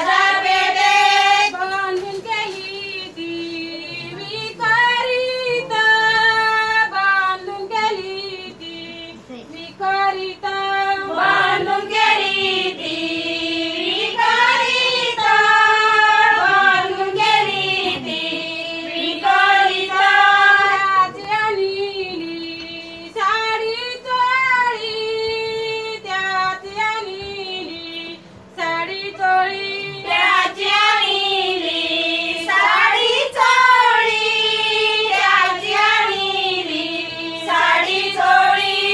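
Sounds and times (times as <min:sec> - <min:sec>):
women singing folk song: 0:00.0 - 0:38.9.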